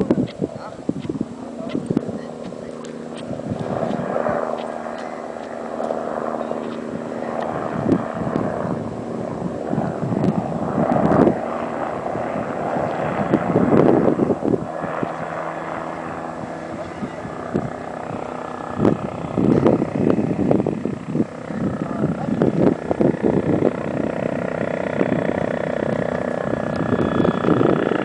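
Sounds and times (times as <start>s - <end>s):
helicopter rotor and turbine drone: 0.0s - 28.0s.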